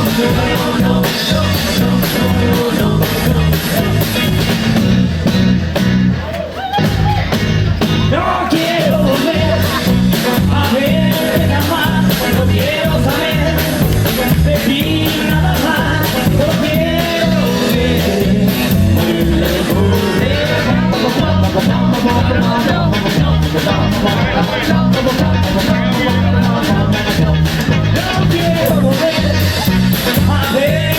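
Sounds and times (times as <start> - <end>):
bass line: 0.0 - 30.9
rockabilly band playing live: 0.0 - 30.9
steady drum beat: 0.0 - 30.9.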